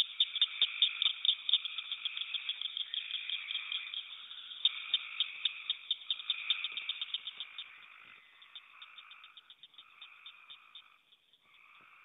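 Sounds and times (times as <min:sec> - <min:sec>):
frogs trilling: 0:00.0 - 0:12.0
sharp clicking frog calls: 0:00.0 - 0:12.0.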